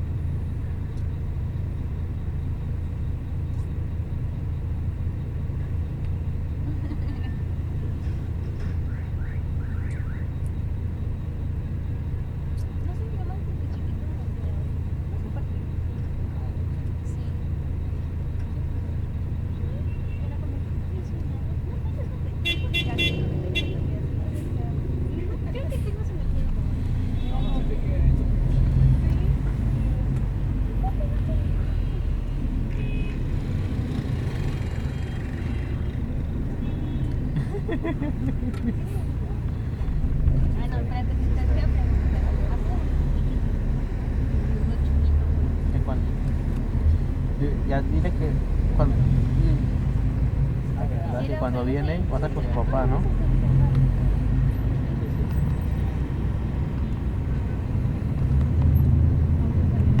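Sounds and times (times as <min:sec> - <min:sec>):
bus engine rumble: 0:00.0 - 1:00.0
road noise: 0:00.0 - 1:00.0.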